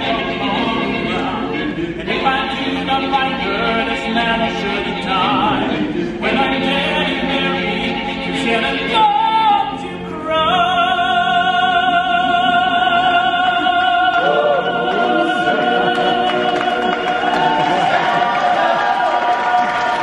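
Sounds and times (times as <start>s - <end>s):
a cappella choir singing in harmony: 0.0s - 20.0s.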